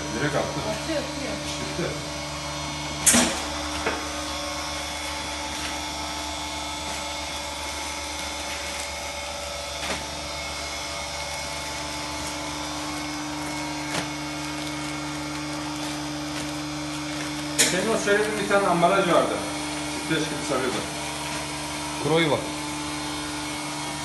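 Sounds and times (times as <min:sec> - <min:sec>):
vacuum pump humming: 0:00.0 - 0:24.0.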